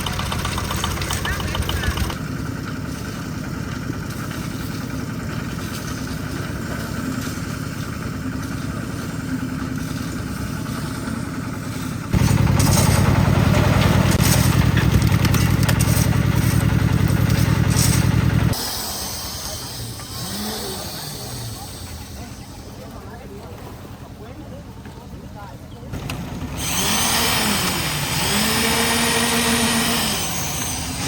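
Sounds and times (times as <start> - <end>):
concrete mixer engine running: 0.0 - 25.2, 25.9 - 31.0.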